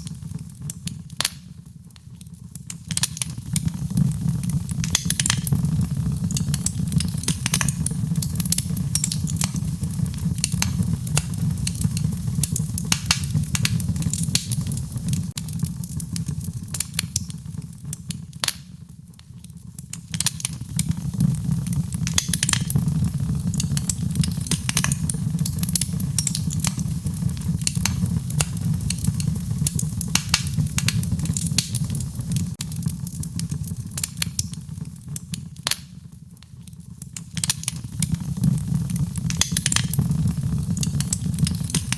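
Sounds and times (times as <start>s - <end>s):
fireplace fire crackling: 0.0s - 41.9s.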